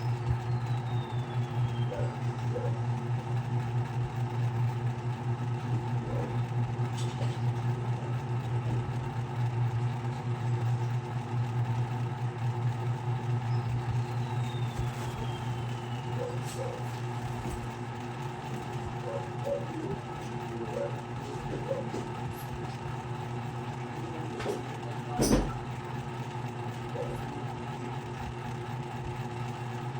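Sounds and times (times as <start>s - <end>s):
ceiling fan humming: 0.0s - 29.9s.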